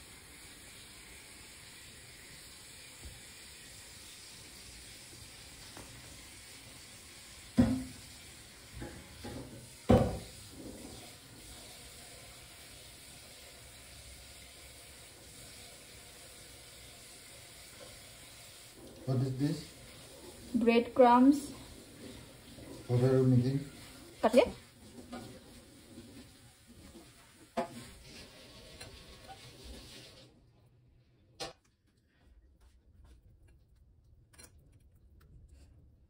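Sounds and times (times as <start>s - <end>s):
faint steady hiss: 0.0s - 30.3s.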